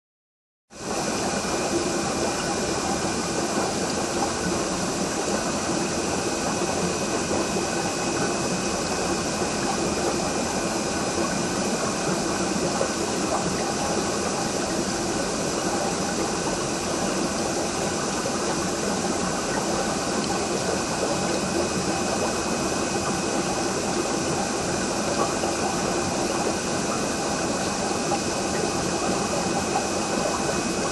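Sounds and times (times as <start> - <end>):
aquarium pump humming: 0.8 - 30.9
water noise: 0.8 - 30.9.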